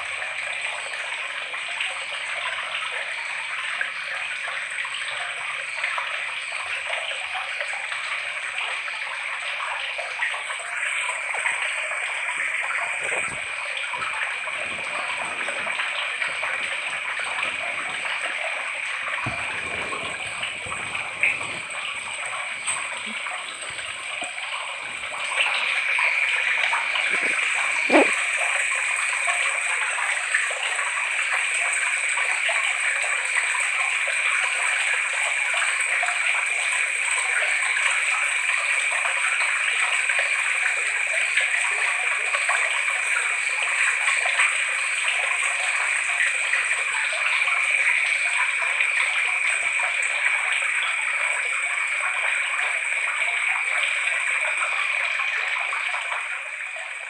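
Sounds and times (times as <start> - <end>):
water trickling and gurgling: 0.0 - 57.0.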